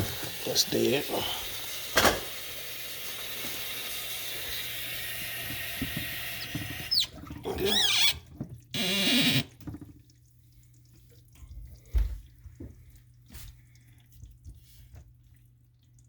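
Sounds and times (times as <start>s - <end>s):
water dripping from faucet: 0.0s - 16.0s.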